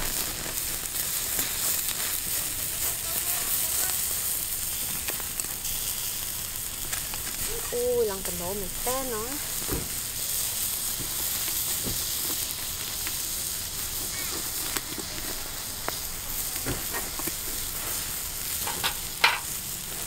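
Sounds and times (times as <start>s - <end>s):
fat sizzling on embers: 0.0s - 20.0s
fire crackles: 0.0s - 20.0s.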